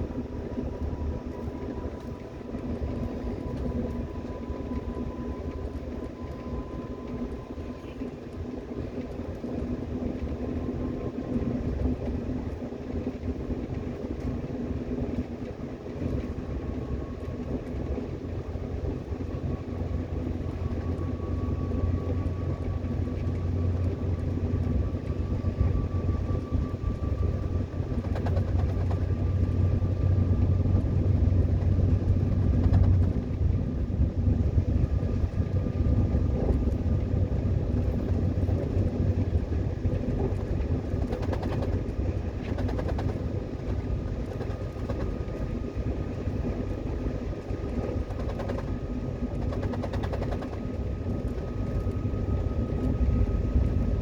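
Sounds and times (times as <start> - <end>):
faint whine: 0.0 - 54.0
subway train wheels rumbling: 0.0 - 54.0.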